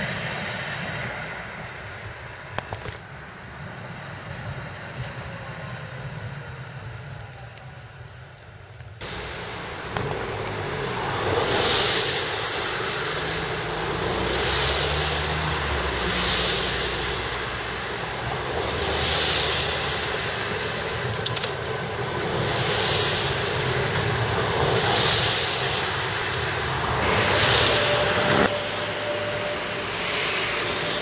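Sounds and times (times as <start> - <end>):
trams rolling rumble: 0.0 - 31.0.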